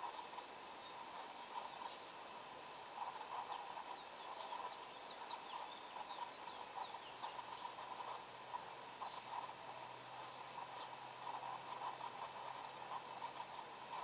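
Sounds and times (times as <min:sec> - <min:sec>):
distant birds calling: 0:00.0 - 0:14.0
steady hiss: 0:00.0 - 0:14.0.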